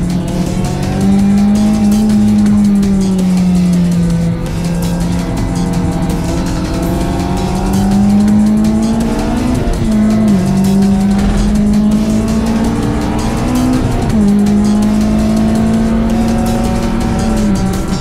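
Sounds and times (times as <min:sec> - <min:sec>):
high-revving car engine: 0:00.0 - 0:18.0.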